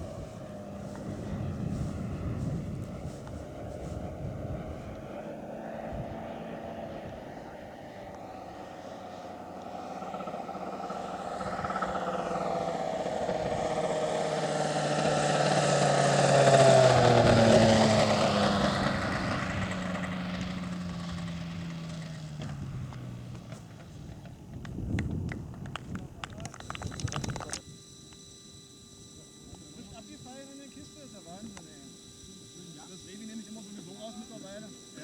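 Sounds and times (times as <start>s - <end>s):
model plane engine drone: 0.0s - 35.0s.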